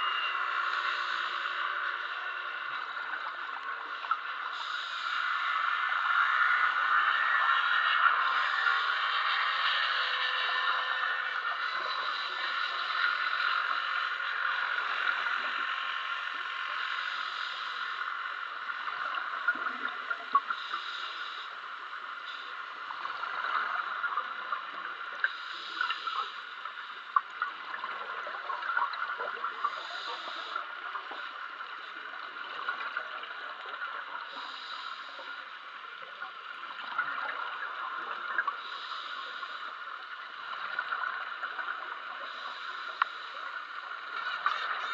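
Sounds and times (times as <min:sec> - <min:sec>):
steady underwater hiss: 0:00.0 - 0:44.9.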